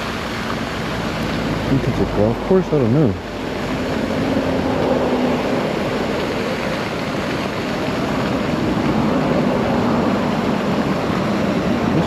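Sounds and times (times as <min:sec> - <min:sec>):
tyres on road: 0:00.0 - 0:12.0.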